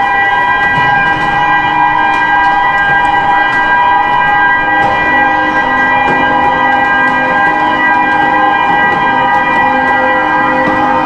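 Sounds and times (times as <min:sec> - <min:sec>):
ship's horns blasting a chord: 0:00.0 - 0:11.0.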